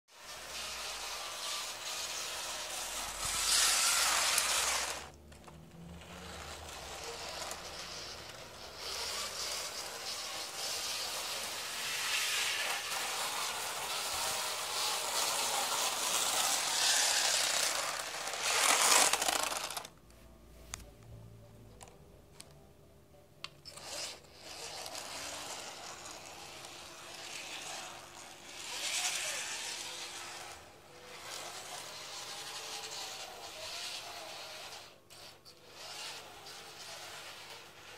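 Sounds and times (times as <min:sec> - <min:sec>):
model train motor whirring: 0:00.2 - 0:19.9, 0:23.7 - 0:37.9.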